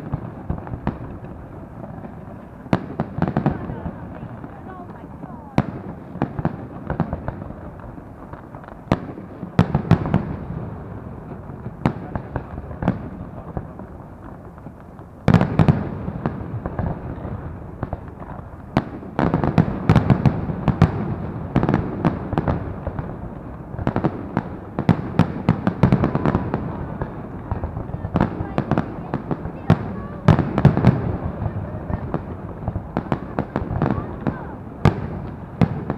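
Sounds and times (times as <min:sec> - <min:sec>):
fireworks bangs: 0:00.0 - 0:35.9
fireworks crackling: 0:00.0 - 0:35.9.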